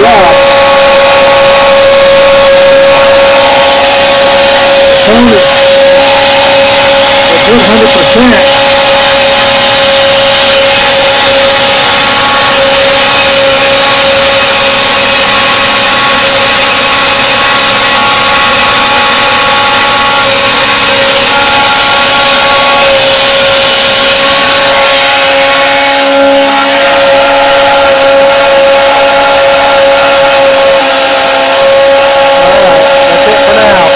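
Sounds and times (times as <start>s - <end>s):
electric water pump whining: 0.0s - 33.9s
water spraying from nozzle: 0.0s - 33.9s.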